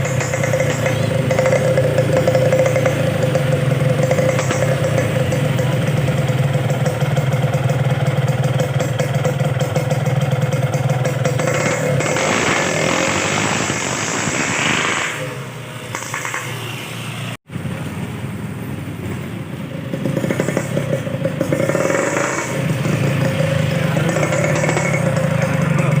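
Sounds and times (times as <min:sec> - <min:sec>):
two-stroke motorcycle engine running: 0:00.0 - 0:16.8, 0:19.6 - 0:26.0.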